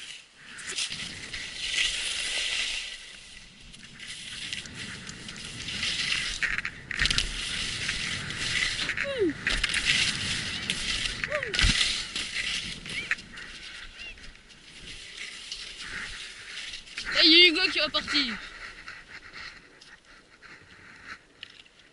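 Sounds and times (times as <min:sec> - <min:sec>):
skis scraping over snow: 0:00.0 - 0:21.3.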